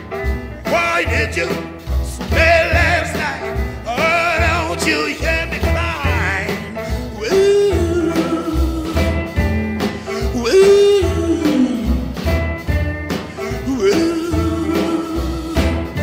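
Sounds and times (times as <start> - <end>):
guitar: 0.0 - 16.0
pulsing bass: 0.0 - 16.0
man singing: 0.4 - 12.4, 13.2 - 16.0.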